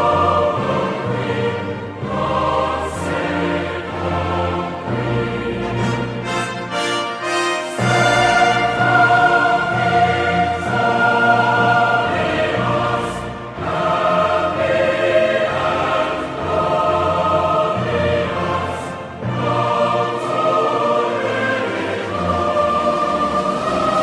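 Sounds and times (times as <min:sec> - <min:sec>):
choir singing: 0:00.0 - 0:24.0
orchestral accompaniment: 0:00.0 - 0:24.0.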